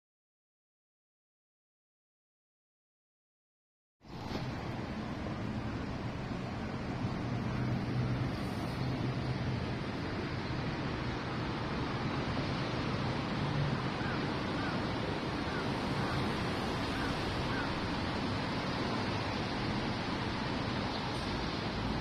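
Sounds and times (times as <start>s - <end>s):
outdoor rushing noise: 4.0s - 22.0s.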